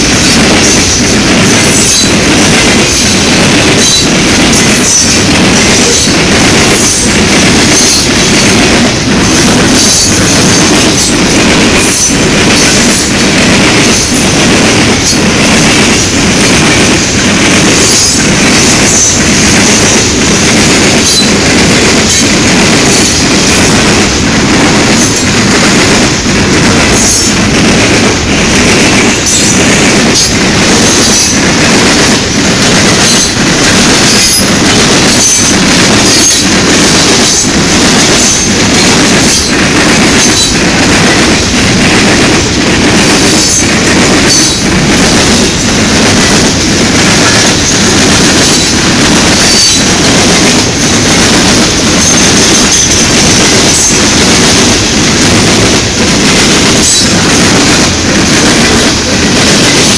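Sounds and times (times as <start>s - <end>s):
steel wheels rumbling on rail: 0.0s - 59.9s
wheels clacking over rail joints: 0.0s - 59.9s.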